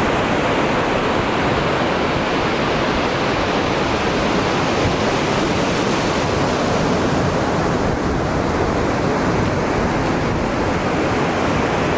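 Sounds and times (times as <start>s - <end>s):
waves breaking on beach: 0.0s - 11.9s.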